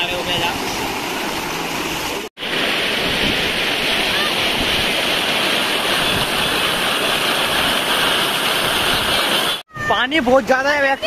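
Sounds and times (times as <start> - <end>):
floodwater rushing and cascading: 0.0 - 11.0.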